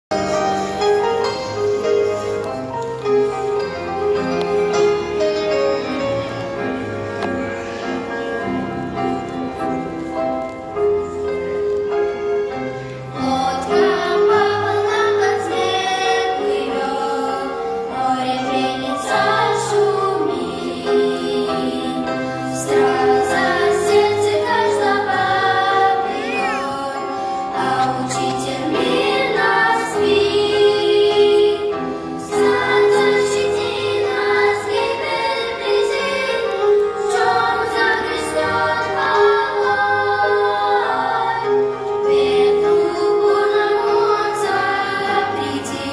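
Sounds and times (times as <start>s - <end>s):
children's choir singing a hymn: 0.1s - 45.9s
instrumental accompaniment: 0.1s - 45.9s.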